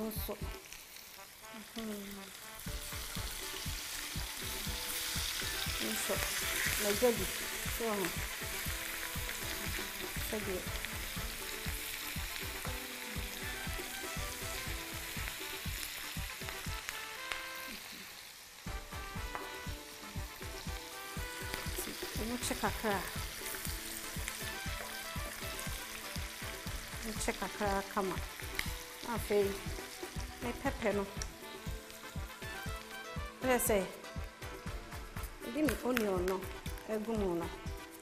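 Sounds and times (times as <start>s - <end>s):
food sizzling in frying pan: 0.0s - 38.0s.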